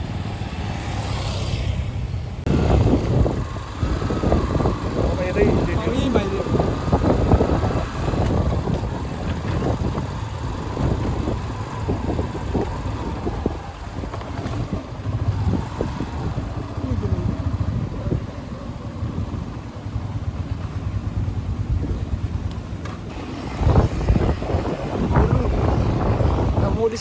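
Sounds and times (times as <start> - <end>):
motorcycle engine rumbling: 0.0 - 27.0.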